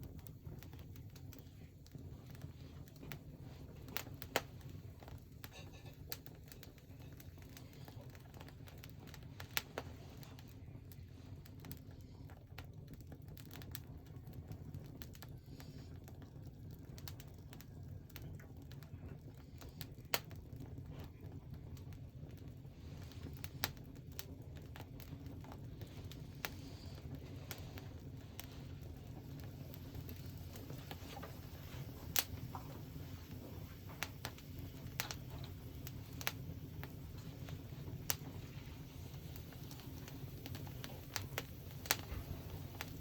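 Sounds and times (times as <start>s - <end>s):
bonfire burning: 0.0s - 43.0s
fire popping and crackling: 0.0s - 43.0s.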